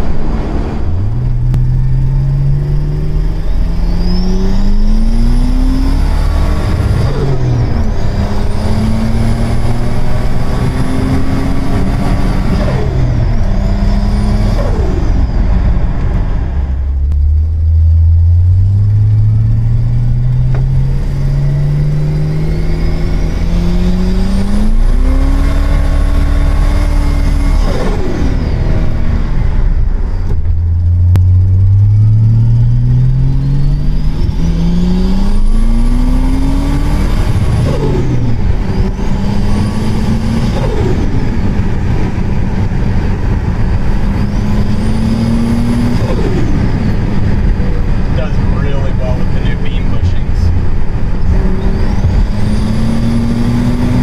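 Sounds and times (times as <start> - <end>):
car engine pulling hard: 0.0 - 54.0.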